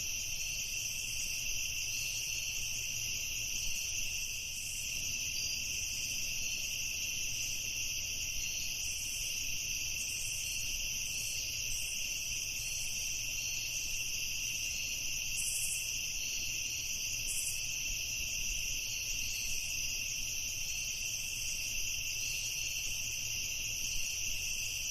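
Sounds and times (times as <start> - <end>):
night insects trilling: 0.0 - 24.9.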